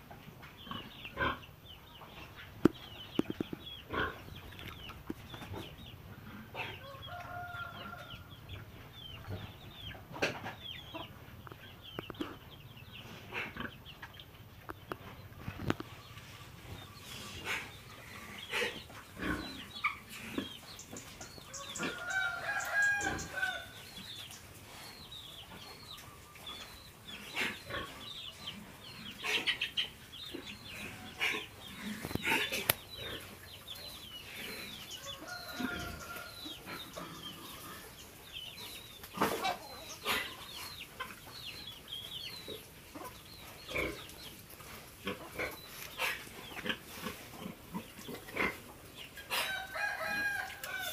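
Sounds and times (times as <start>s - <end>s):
chickens clucking and calling: 0.0s - 50.9s.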